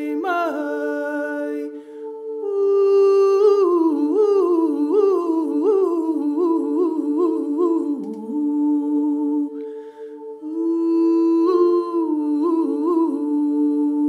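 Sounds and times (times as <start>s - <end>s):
women singing a cappella: 0.0s - 14.0s.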